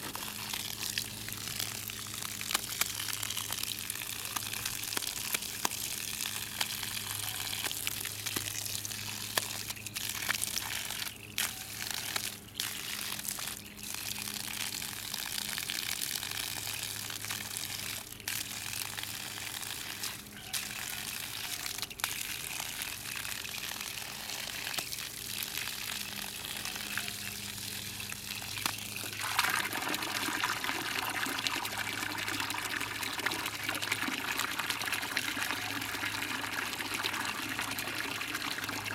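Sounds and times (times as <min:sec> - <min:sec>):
garden hose splashing: 0:00.0 - 0:38.9
water pouring into pool: 0:00.0 - 0:38.9.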